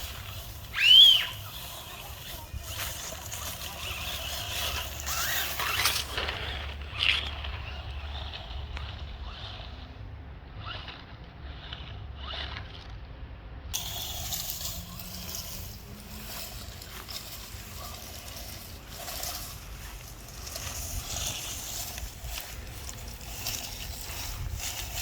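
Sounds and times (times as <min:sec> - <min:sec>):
rc truck driving through water: 0:00.0 - 0:13.0, 0:13.7 - 0:25.0.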